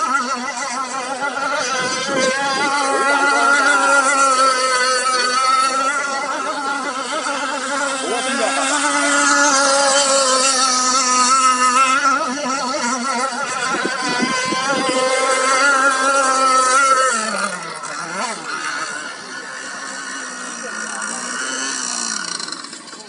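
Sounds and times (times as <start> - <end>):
model boat motor whining: 0.0 - 23.0.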